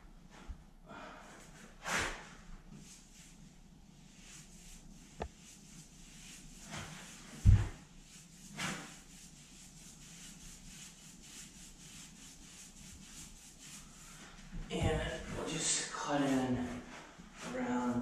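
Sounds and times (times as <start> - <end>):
paintbrush rubbing on wall: 1.4 - 18.0.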